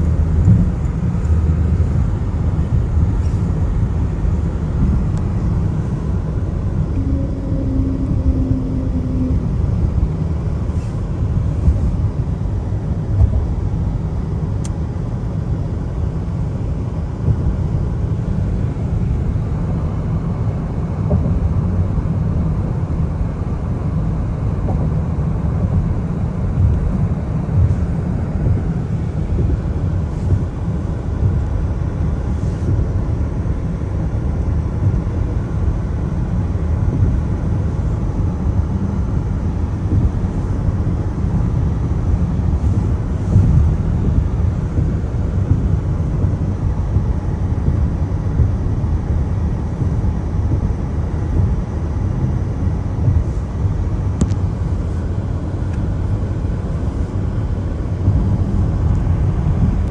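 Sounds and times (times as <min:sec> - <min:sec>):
car driving on wet road: 0:00.0 - 0:59.9.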